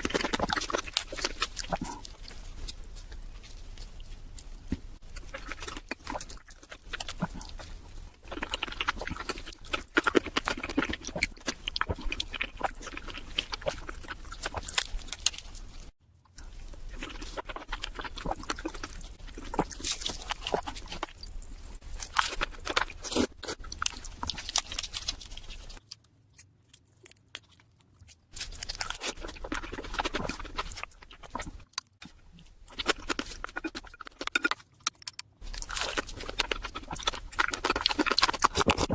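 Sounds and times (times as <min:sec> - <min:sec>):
crab shell crunching: 0:00.0 - 0:38.9
wet chewing and smacking: 0:00.0 - 0:38.9.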